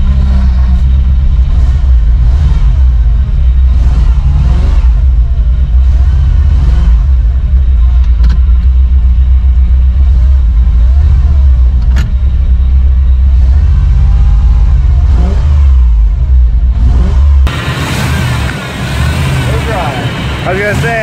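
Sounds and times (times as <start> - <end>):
truck engine deep rumble: 0.0 - 21.0.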